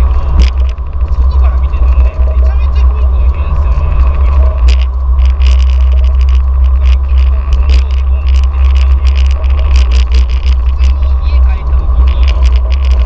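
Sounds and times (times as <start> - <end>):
car steering clicks and creaks: 0.0 - 13.0
loud low rumble: 0.0 - 13.0.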